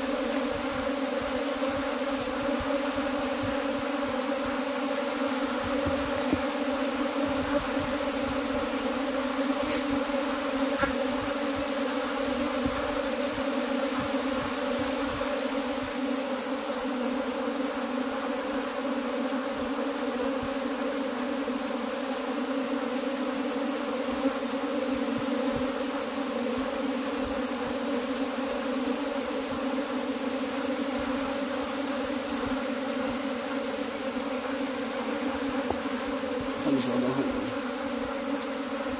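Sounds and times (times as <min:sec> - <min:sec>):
bees buzzing low hum: 0:00.0 - 0:38.9.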